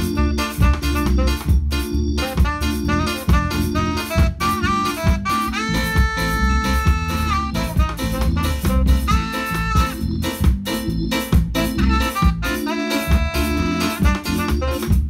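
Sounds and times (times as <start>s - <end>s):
drum kit: 0.0s - 15.0s
saxophone playing jazz: 0.0s - 15.0s.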